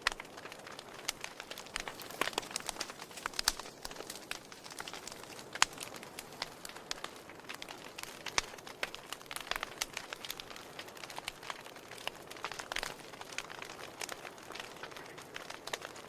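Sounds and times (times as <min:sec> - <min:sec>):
soft hiss of flame: 0:00.0 - 0:16.0
wood fire crackling: 0:00.0 - 0:16.0.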